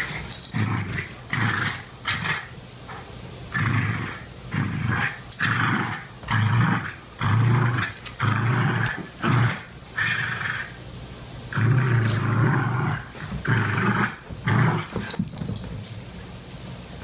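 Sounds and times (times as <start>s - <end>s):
dogs growling in play: 0.0s - 2.5s, 3.5s - 10.8s, 11.5s - 16.0s.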